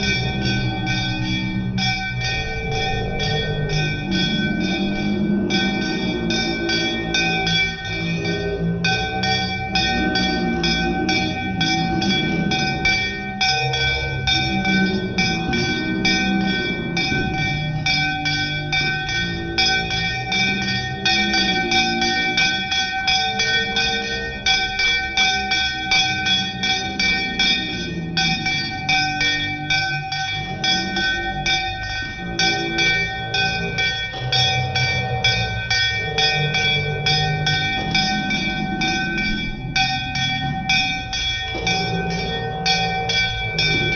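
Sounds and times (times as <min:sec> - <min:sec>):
bell rung rapidly: 0:00.0 - 0:43.9.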